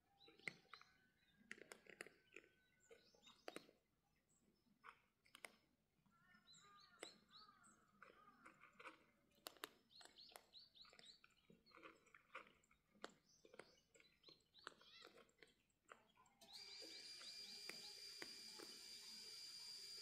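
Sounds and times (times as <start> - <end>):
small birds chirping: 0.0 - 20.0
cats crunching food: 0.2 - 3.8, 4.6 - 5.8, 6.8 - 20.0.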